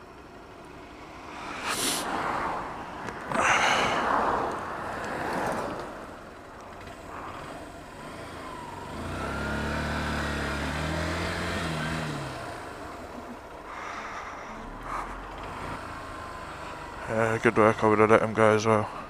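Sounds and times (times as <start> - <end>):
low engine hum: 0.0 - 19.0
van passing with tyre noise: 0.0 - 19.0.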